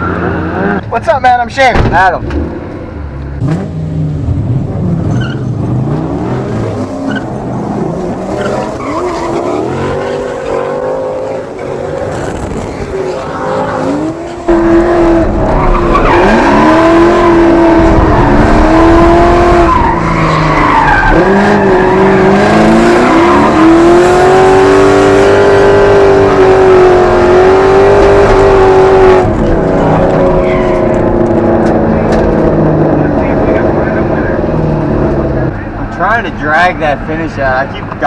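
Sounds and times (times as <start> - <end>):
tyres skidding and squealing: 0.0 - 0.9, 1.9 - 38.0
car engine revving hard: 3.4 - 35.5.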